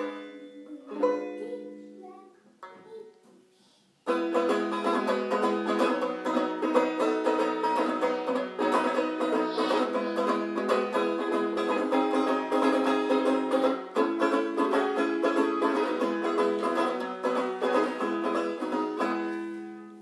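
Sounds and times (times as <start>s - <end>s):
ukulele strumming: 0.0s - 3.2s, 4.0s - 20.0s.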